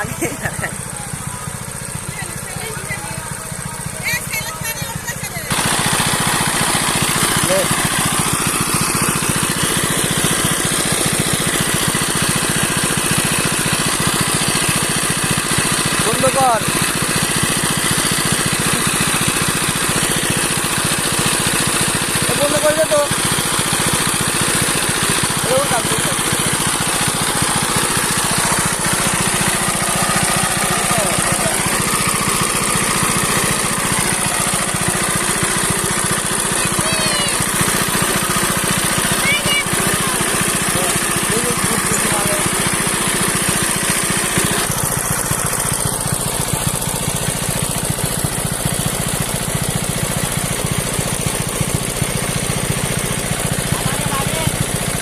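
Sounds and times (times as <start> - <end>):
diesel pump engine chugging: 0.0 - 55.0.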